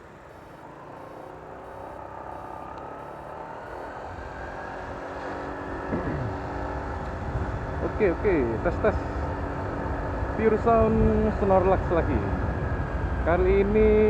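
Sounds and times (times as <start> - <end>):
scooter engine running: 0.0 - 11.6.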